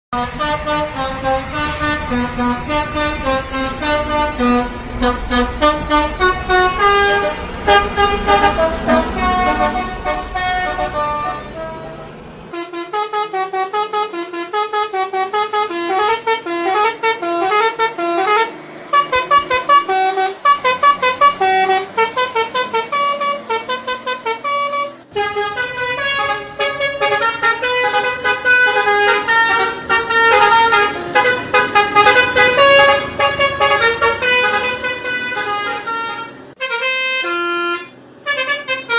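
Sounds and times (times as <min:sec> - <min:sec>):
low engine rumble: 0:00.2 - 0:38.9
musical air horn melody: 0:00.2 - 0:38.9.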